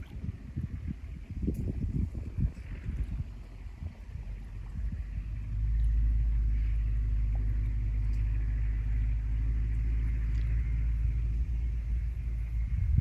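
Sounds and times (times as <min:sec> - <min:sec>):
steady low rumble: 0:00.0 - 0:13.0
wind gusting on microphone: 0:00.0 - 0:13.0.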